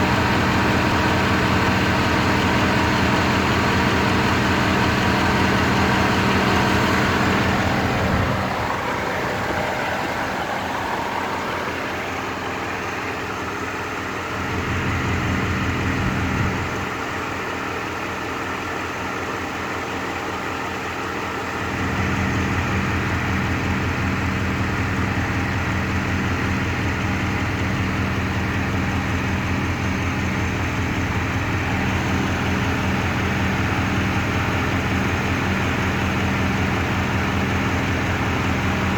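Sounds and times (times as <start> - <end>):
car engine idling with misfire: 0.0 - 38.9.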